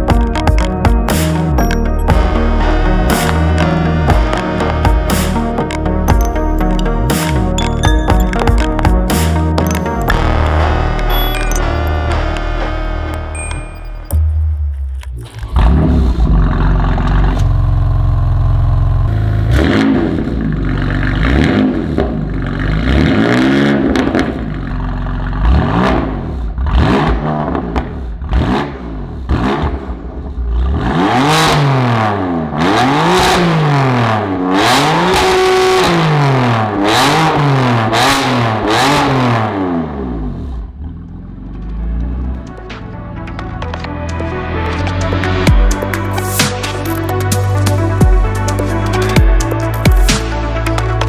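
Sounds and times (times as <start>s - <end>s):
car engine revving: 0.0s - 7.7s, 8.3s - 51.0s.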